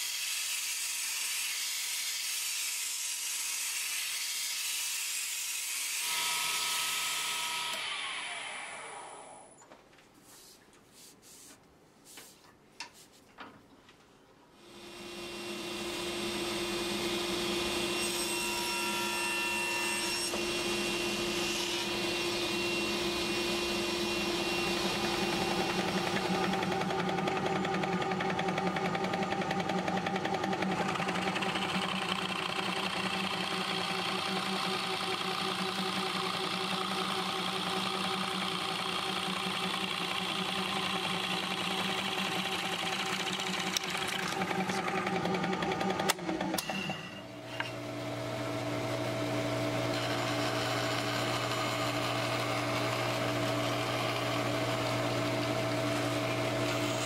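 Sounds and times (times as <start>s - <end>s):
drill press boring wood: 6.0s - 9.5s, 14.6s - 57.0s
power tools running: 6.0s - 9.6s, 14.6s - 57.0s.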